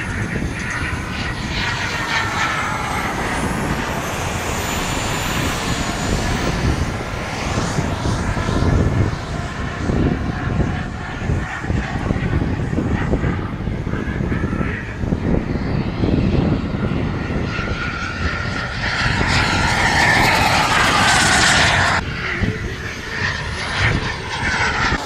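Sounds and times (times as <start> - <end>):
model jet turbine whine: 0.0 - 25.0.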